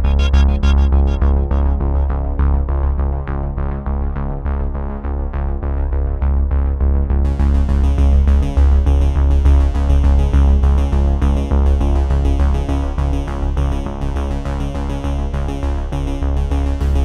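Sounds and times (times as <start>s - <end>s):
electronic music with keyboard and bass: 0.0s - 17.0s.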